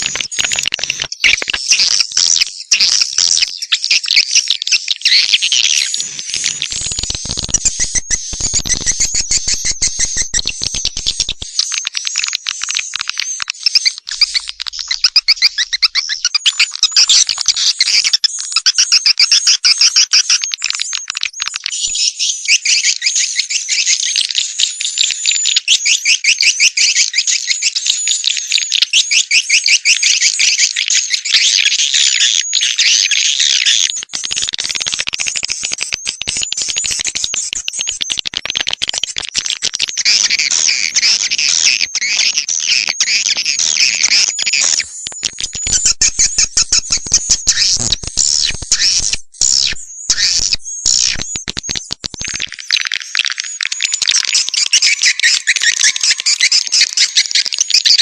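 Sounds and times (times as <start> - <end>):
high-pitched bird twittering: 0.0 - 58.0.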